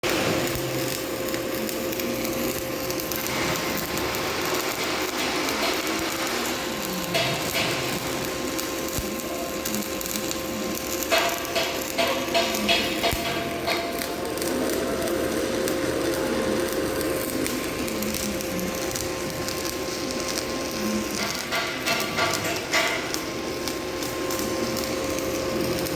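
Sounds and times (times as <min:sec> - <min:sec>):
welding arc crackling: 0:00.0 - 0:25.9.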